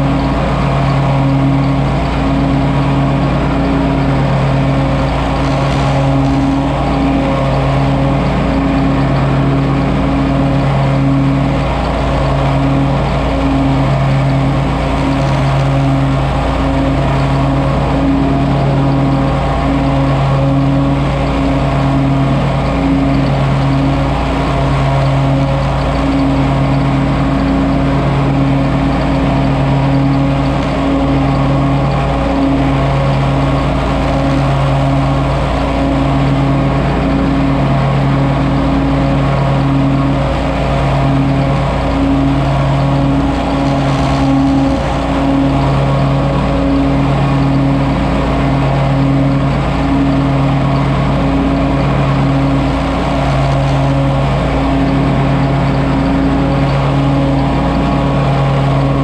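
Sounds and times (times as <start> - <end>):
mower droning: 0.0 - 59.0.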